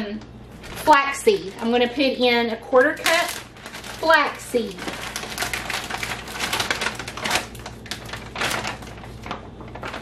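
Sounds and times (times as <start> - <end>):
plastic bag crinkling: 0.5 - 1.8, 2.7 - 10.0.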